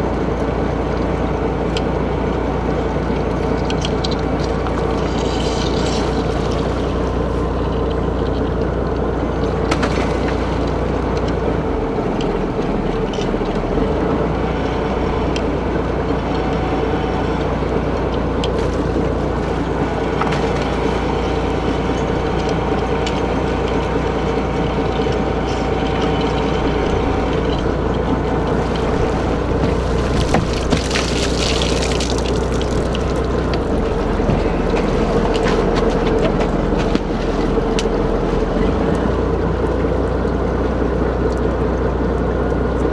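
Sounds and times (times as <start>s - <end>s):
boat engine and deck machinery: 0.0s - 42.9s.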